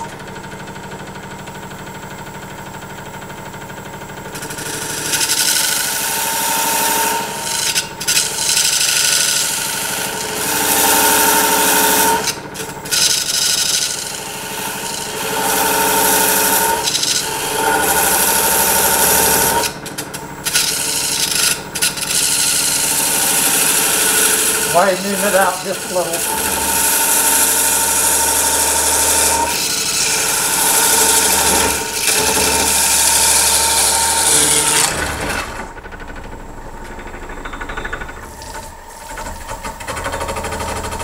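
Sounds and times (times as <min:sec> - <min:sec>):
lathe humming: 0:00.0 - 0:41.0
tool scraping spinning wood: 0:04.0 - 0:41.0.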